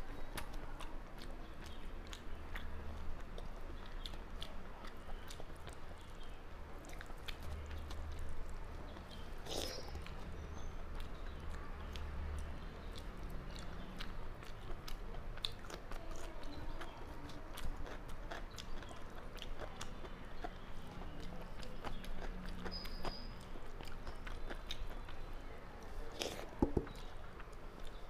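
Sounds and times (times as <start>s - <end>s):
person chewing food: 0.3s - 28.0s.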